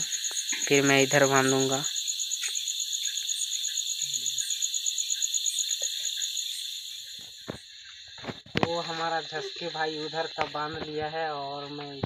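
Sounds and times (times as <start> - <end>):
crickets chirping: 0.0 - 12.0
insects hissing: 0.0 - 12.0.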